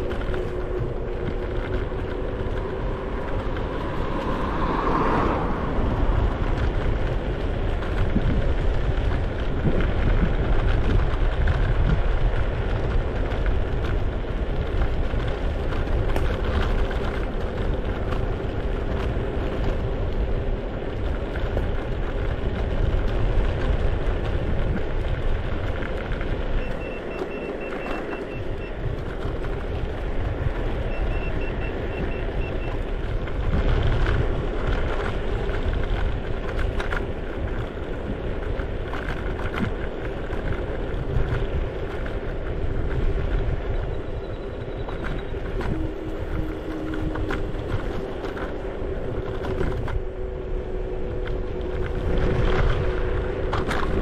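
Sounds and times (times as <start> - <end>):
road noise: 0.0 - 54.0
wind rushing over microphone: 0.0 - 54.0.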